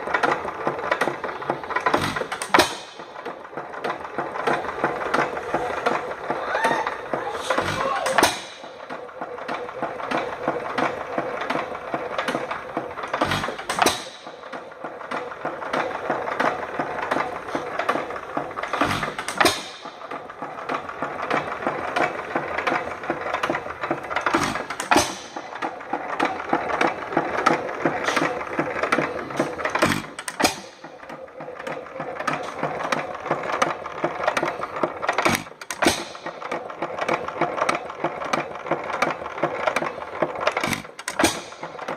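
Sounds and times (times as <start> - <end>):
engine fast ticking: 0.0 - 41.9
engine firing stroke: 0.0 - 41.9.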